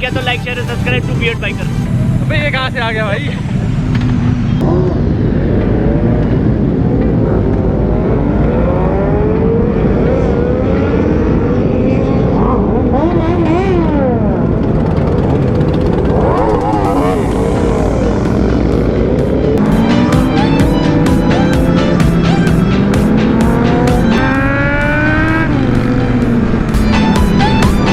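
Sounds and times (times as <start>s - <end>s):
motorcycle engines revving: 0.0s - 27.9s.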